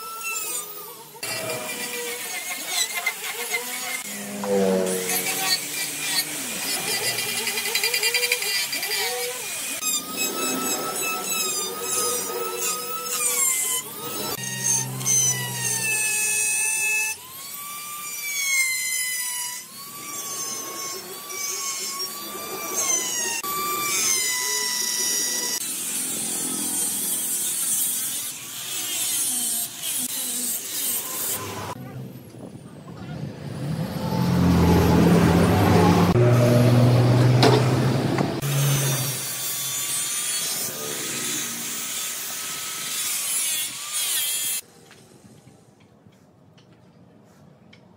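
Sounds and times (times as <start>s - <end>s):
power grinders whining on wood: 0.0s - 31.8s, 33.6s - 44.7s.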